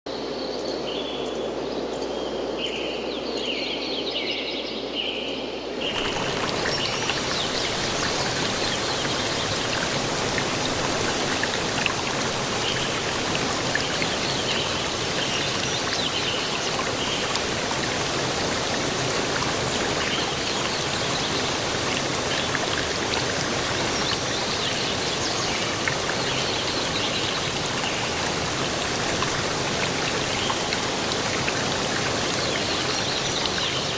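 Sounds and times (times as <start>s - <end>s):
water rushing: 5.7s - 33.9s.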